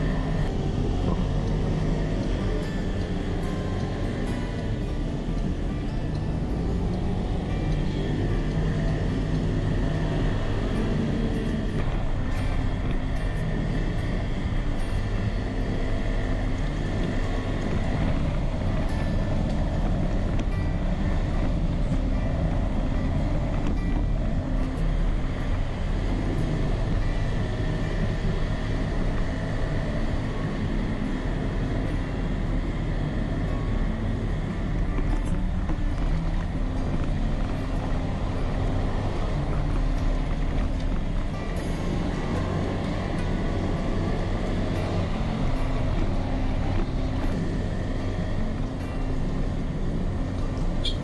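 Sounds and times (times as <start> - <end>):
road and wind noise: 0.0 - 51.0.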